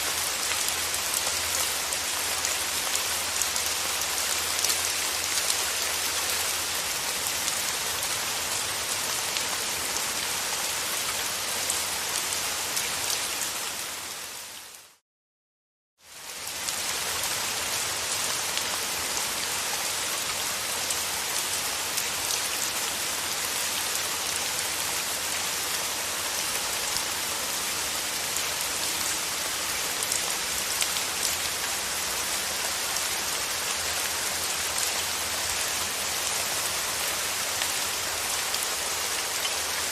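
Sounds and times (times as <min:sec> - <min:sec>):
steady rain falling: 0:00.0 - 0:15.0, 0:16.0 - 0:39.9.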